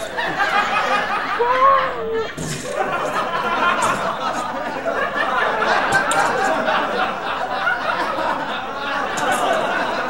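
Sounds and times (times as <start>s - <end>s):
crowd chattering and laughing: 0.0s - 10.0s.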